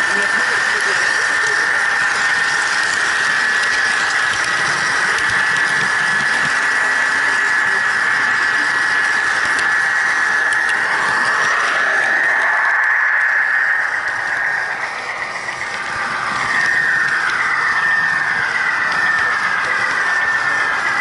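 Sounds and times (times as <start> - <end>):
electric motor whine: 0.0 - 21.0
wheels rattling on track: 0.0 - 21.0.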